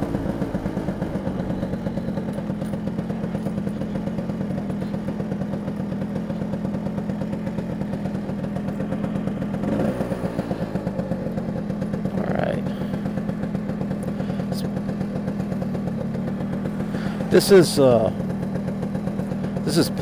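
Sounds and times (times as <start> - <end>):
scooter engine at low revs: 0.0 - 20.0.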